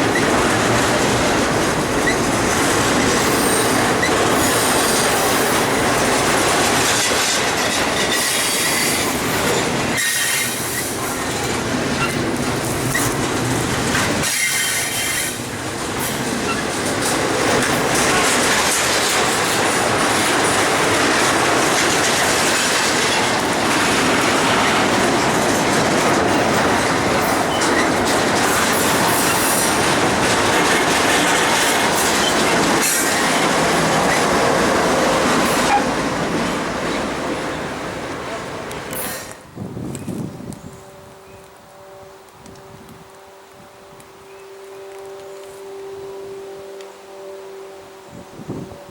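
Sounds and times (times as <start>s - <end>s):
train cars rolling on track: 0.0s - 48.9s.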